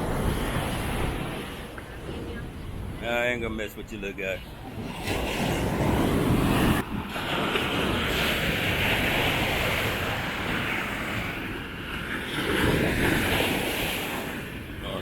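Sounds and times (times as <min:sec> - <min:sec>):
surf washing on sandy beach: 0:00.0 - 0:15.0
wind buffeting microphone: 0:00.0 - 0:15.0.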